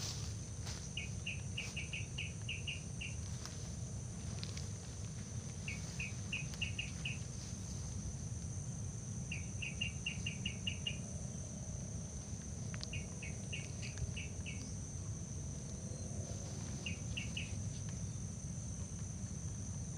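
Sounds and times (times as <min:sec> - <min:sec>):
low rumble: 0:00.0 - 0:17.7
high-pitched insect drone: 0:00.0 - 0:18.4.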